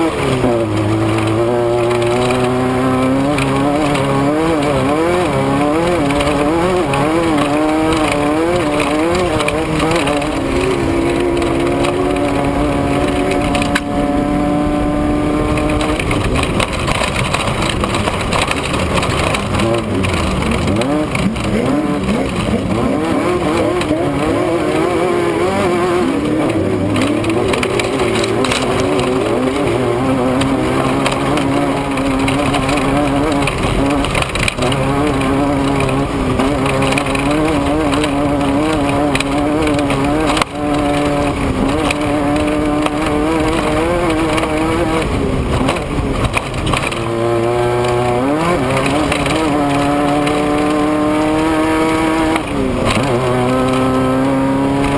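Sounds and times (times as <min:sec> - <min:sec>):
race vehicle engine revving: 0:00.0 - 0:54.9
steady rushing noise: 0:00.0 - 0:54.9.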